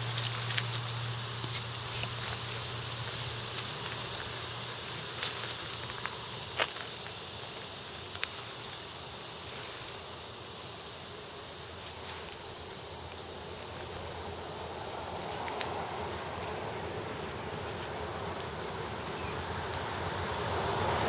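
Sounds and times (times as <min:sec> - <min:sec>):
insects hissing: 0:00.0 - 0:21.0.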